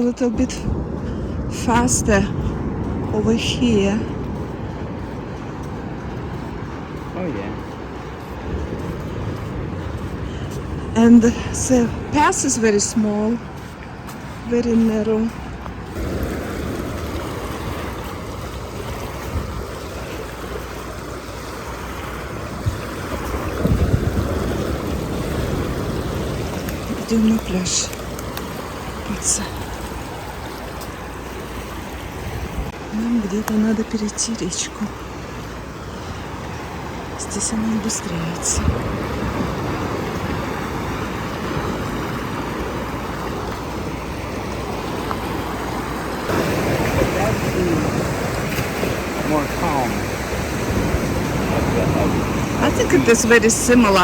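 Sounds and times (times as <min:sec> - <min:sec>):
rushing water: 0:00.0 - 0:54.0
wind buffeting microphone: 0:00.0 - 0:54.0.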